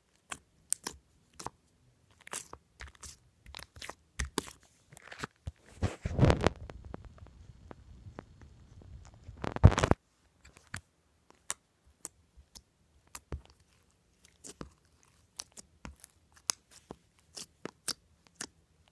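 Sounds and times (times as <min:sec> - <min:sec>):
noise putty squelching: 0:00.1 - 0:18.6.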